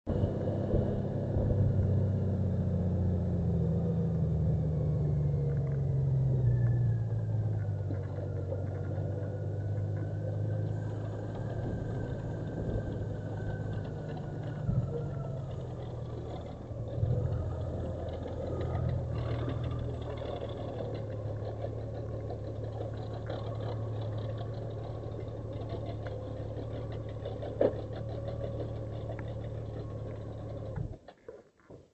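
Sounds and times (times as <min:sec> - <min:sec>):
motorcycle engine idling: 0:00.2 - 0:30.9.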